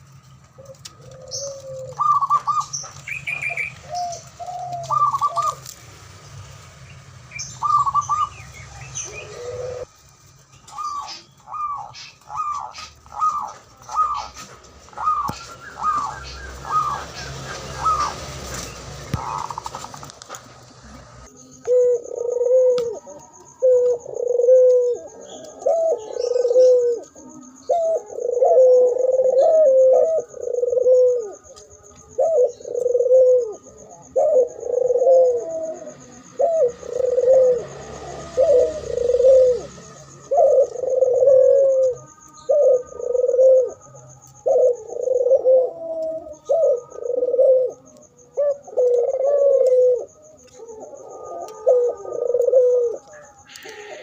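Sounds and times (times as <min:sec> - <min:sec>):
doves cooing: 0:00.0 - 0:06.1, 0:07.3 - 0:10.0, 0:10.6 - 0:54.0.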